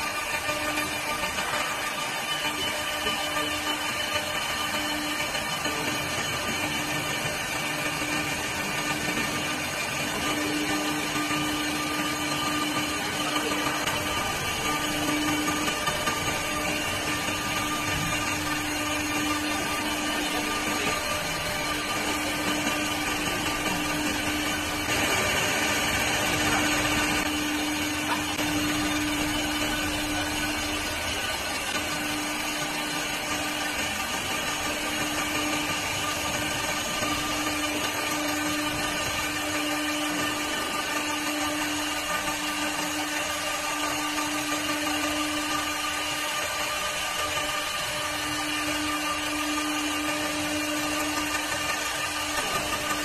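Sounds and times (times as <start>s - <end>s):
lathe whining tones: 0.0s - 53.0s
wood lathe motor hum: 0.0s - 53.0s.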